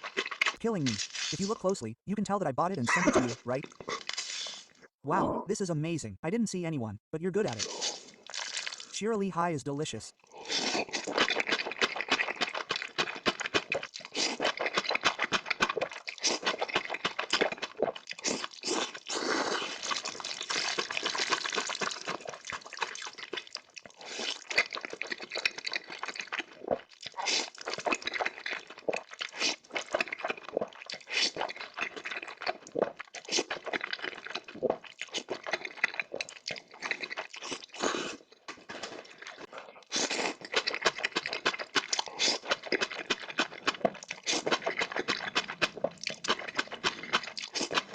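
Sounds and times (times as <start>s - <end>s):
wet smacking and crunching: 0.0s - 1.7s, 7.5s - 9.0s, 10.5s - 47.9s
noodles slurped and chewed: 0.0s - 1.8s, 3.0s - 4.8s, 7.5s - 9.0s, 10.2s - 47.9s.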